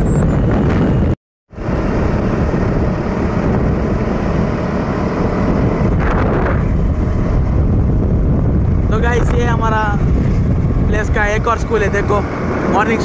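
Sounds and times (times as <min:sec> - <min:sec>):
motorcycle engine running: 0:00.0 - 0:11.1
wind rushing over microphone: 0:00.0 - 0:13.0.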